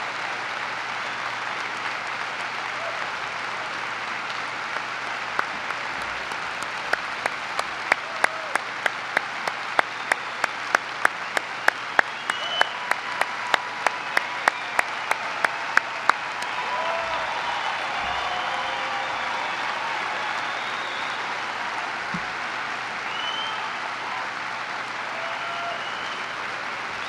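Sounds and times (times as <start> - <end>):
audience applauding: 0.0 - 27.0
sharp claps: 0.0 - 27.0.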